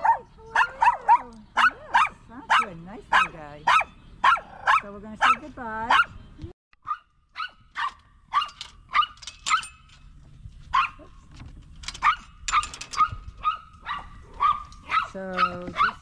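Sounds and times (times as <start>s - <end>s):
dogs yapping: 0.0s - 9.9s, 10.7s - 11.3s, 11.9s - 16.0s.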